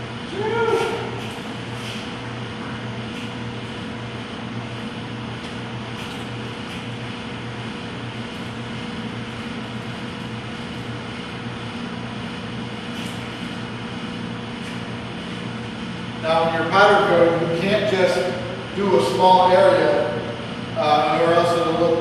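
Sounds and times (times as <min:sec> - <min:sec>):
electric hum: 0:00.0 - 0:22.0.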